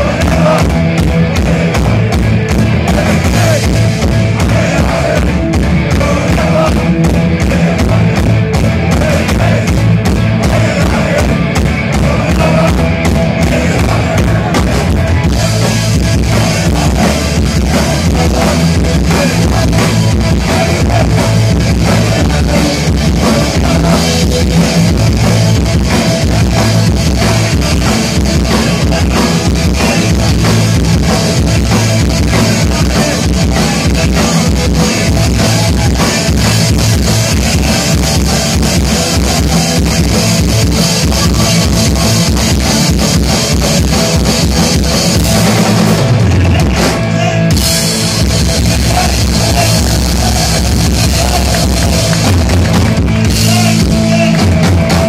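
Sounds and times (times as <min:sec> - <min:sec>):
bass guitar: 0:00.0 - 0:55.0
distorted electric guitar: 0:00.0 - 0:55.0
drum kit pounding: 0:00.0 - 0:55.0.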